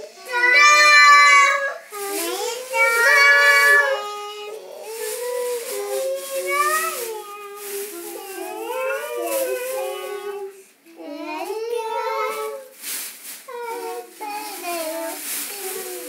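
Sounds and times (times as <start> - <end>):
girl singing without words: 0.0 - 12.8, 13.5 - 16.0.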